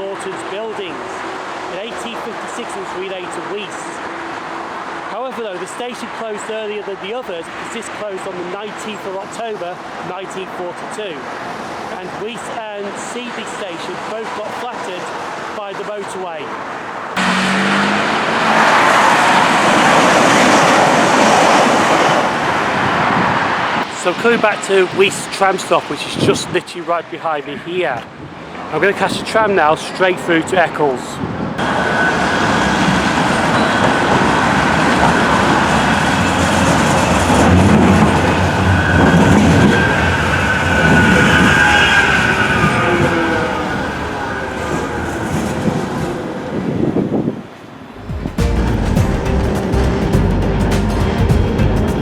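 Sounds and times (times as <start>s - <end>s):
high whine from tram: 0.0s - 5.2s, 11.2s - 52.0s
heavy motorway traffic roar: 0.0s - 52.0s
tram rumbling on rails: 0.0s - 52.0s.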